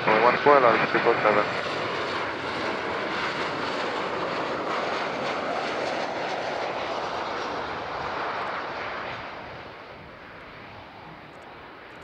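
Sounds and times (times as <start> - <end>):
jet engines passing: 0.0 - 12.0.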